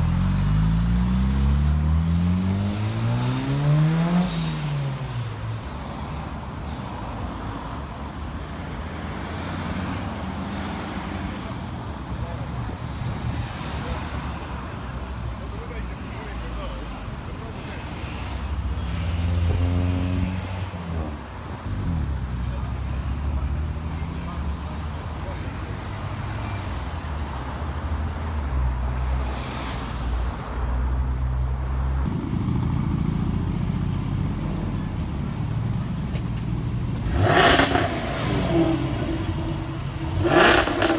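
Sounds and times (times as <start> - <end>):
car engines rumbling slowly: 0.0 - 40.9
road traffic noise: 0.0 - 40.9.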